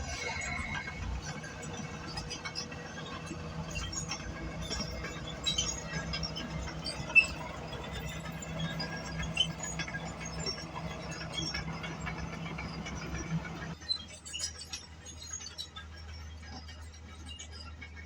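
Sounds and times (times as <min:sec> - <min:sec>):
bulldozer engine running: 0:00.0 - 0:16.1.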